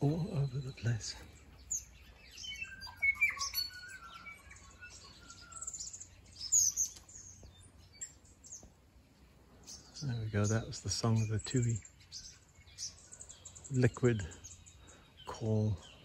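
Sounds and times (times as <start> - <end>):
bird singing whistled notes: 0.0 - 8.7, 9.6 - 16.0.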